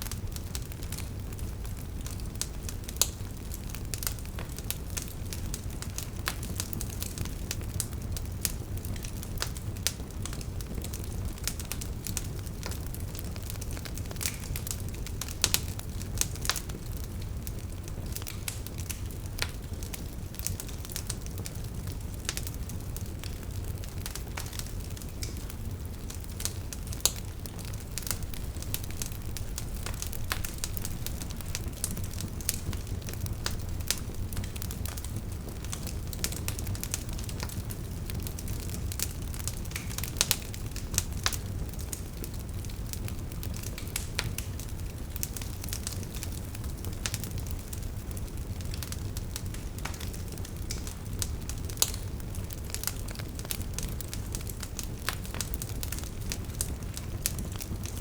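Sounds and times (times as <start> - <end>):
low rumble of flame: 0.0 - 58.0
wood fire pops and snaps: 0.0 - 58.0.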